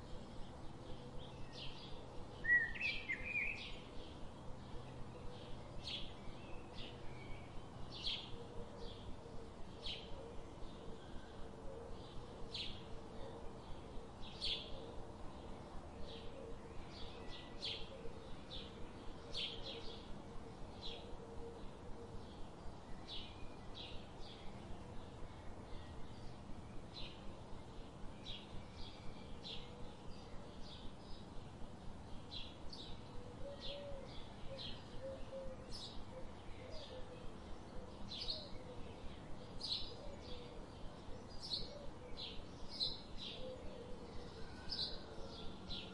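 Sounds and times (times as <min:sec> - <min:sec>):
steady background hiss: 0:00.0 - 0:45.9.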